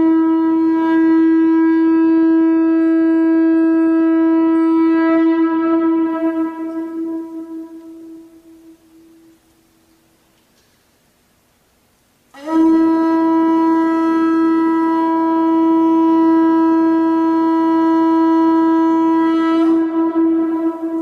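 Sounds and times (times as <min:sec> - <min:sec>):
long held horn note: 0:00.0 - 0:09.4, 0:12.3 - 0:21.0.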